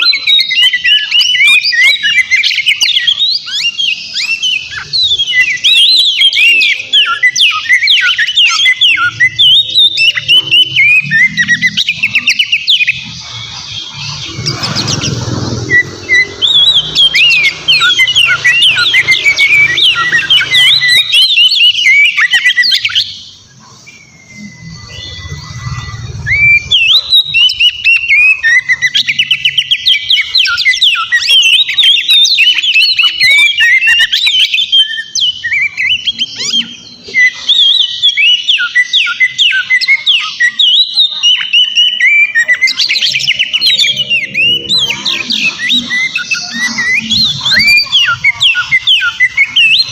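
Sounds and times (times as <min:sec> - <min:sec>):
bird singing sharp varied notes: 0:00.0 - 0:49.9.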